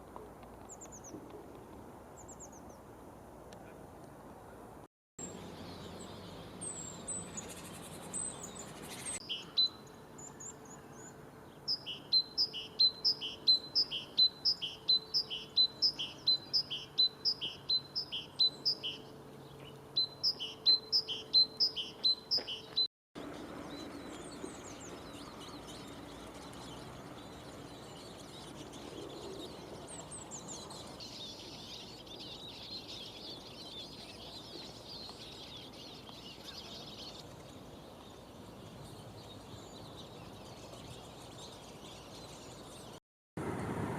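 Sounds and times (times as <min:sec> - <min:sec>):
birds twittering: 0:05.2 - 0:43.0.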